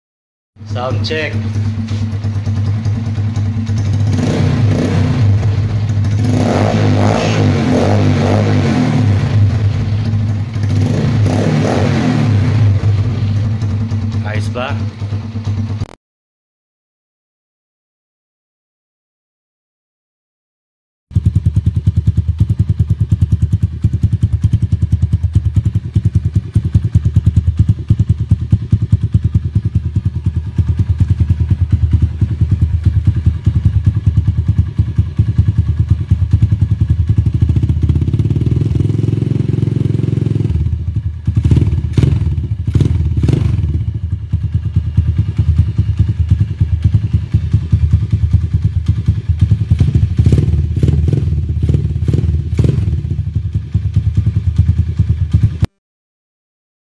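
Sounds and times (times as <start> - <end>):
motorcycle engine idling and revving: 0.6 - 16.0, 21.1 - 55.8.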